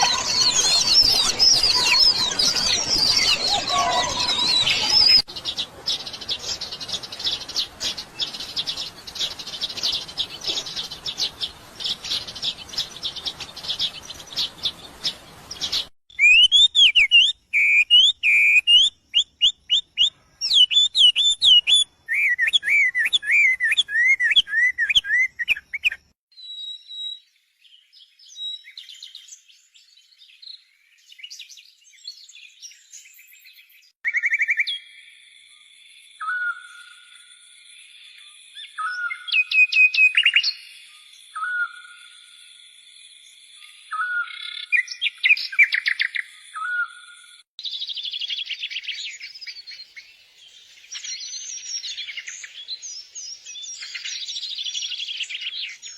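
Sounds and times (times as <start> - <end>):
bird whistled song: 0.0 - 27.3, 27.9 - 35.0, 36.2 - 37.2, 38.2 - 42.2, 43.7 - 55.9
songbirds chirping: 0.0 - 55.9.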